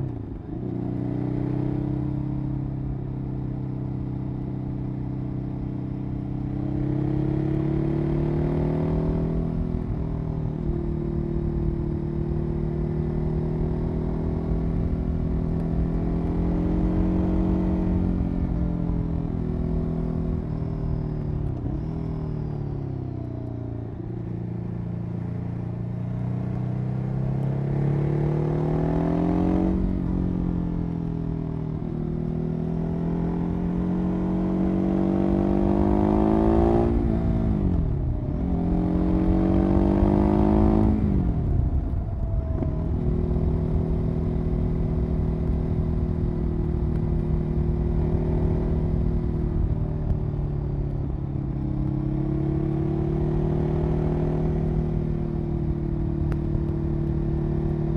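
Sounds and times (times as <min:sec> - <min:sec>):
motorcycle engine revving through gears: 0:00.0 - 0:57.9.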